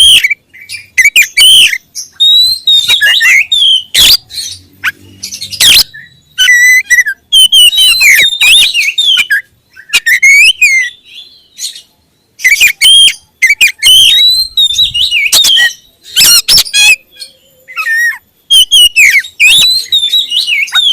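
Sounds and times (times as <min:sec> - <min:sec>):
bird singing whistles and trills: 0:00.0 - 0:20.9.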